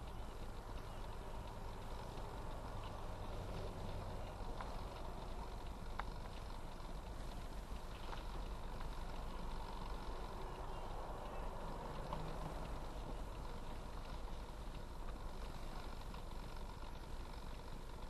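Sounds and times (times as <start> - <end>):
engine and road rumble: 0.0 - 18.0
faint clicks: 0.0 - 18.0.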